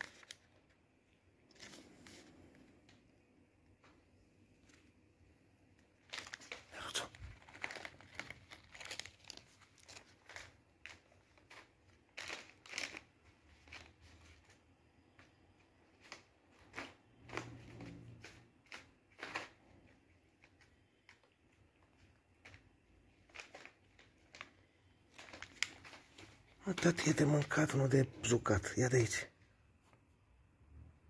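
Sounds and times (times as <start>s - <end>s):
plastic pouches crinkling: 0.0s - 3.0s, 5.7s - 29.2s.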